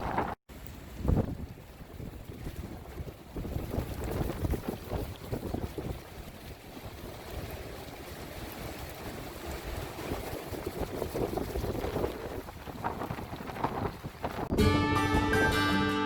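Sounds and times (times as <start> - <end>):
strong wind gusting on microphone: 0.0 - 14.6.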